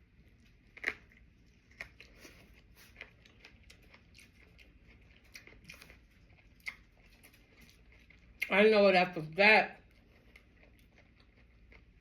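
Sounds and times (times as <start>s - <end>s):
chewing and crunching: 0.0s - 8.6s, 9.7s - 12.0s.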